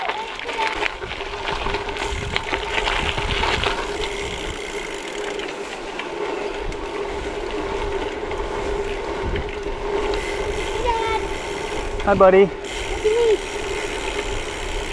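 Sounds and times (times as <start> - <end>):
bicycle rattling on gravel: 0.0 - 14.9
bicycle tyres rolling on road: 0.0 - 14.9
bike mechanism humming: 0.0 - 14.9.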